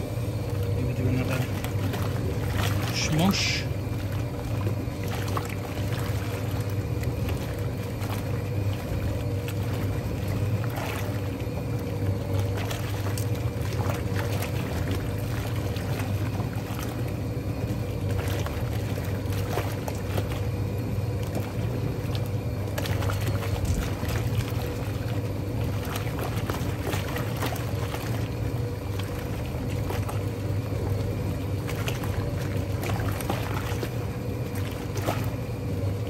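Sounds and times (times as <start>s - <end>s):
washing machine motor humming: 0.0s - 36.0s
water churning and sloshing: 0.0s - 36.0s.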